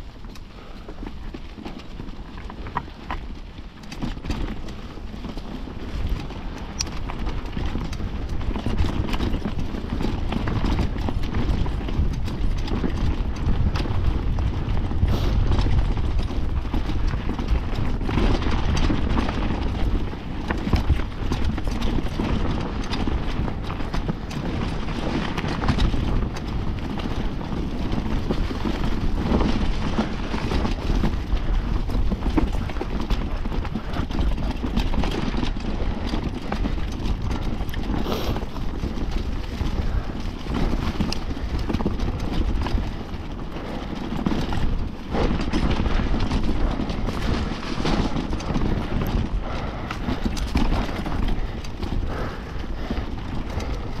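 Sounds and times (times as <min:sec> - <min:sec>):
bike rattling over roots: 0:00.0 - 0:54.0
tyre noise: 0:00.0 - 0:54.0
wind rumble on microphone: 0:00.0 - 0:54.0.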